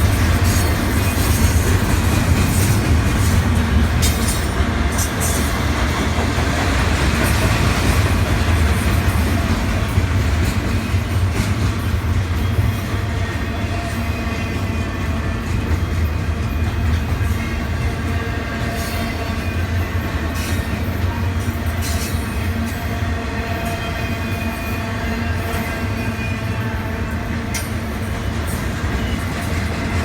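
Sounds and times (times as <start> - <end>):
rail joint clicks: 0.0 - 30.0
train wheels rumbling: 0.0 - 30.0.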